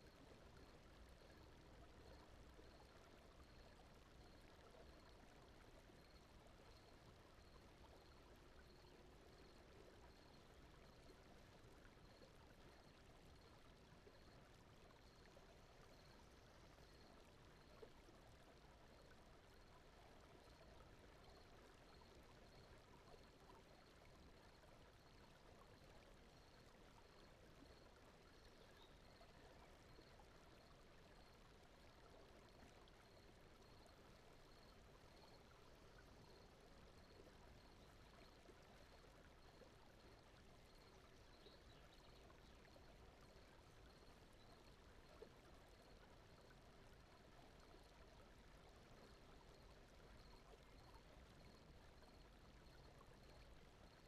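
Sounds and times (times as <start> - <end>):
faint brown noise: 0.0 - 54.0.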